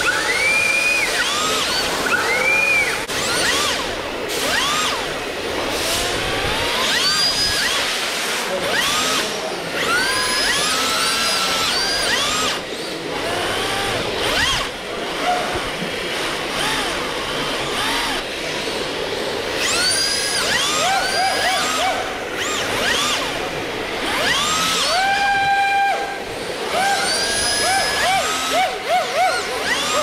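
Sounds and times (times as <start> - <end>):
electric motors whining: 0.0 - 30.0.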